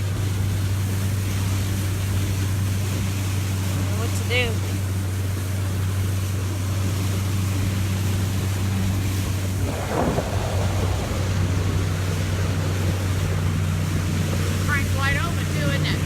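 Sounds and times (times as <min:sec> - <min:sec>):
outboard motor droning: 0:00.0 - 0:16.0
water rushing past hull: 0:00.0 - 0:16.0
wind buffeting microphone: 0:00.0 - 0:16.0.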